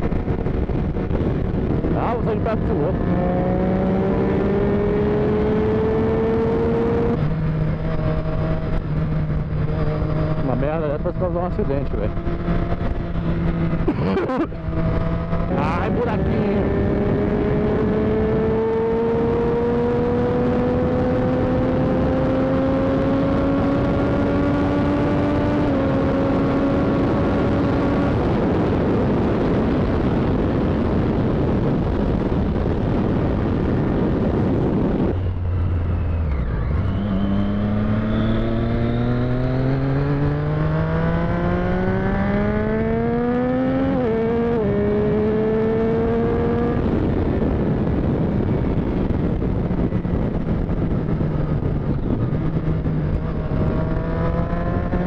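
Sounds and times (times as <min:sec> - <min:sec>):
motorcycle engine accelerating: 0:00.0 - 0:55.0
wind rush on microphone: 0:00.0 - 0:55.0.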